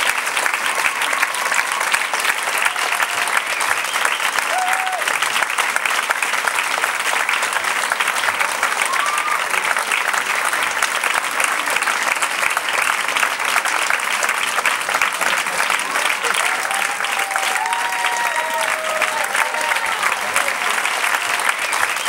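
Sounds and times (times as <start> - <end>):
audience applause: 0.0 - 22.0.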